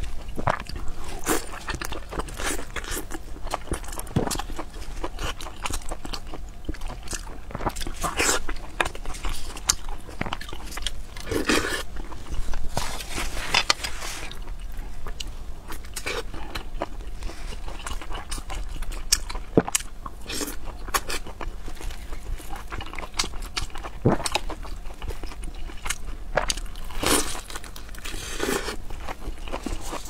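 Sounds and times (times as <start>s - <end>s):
wet chewing and lip-smacking: 0.0s - 12.6s, 13.5s - 30.0s.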